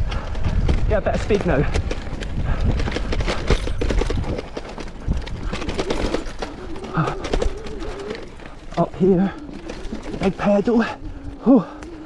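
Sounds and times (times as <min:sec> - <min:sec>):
bike knocks and rattles: 0:00.0 - 0:10.9
wind and tyre rumble: 0:00.0 - 0:12.0.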